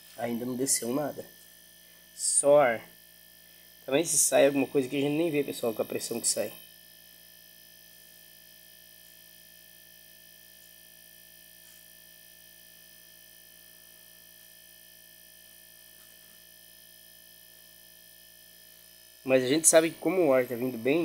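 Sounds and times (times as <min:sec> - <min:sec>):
refrigerator compressor humming: 0:00.0 - 0:21.0.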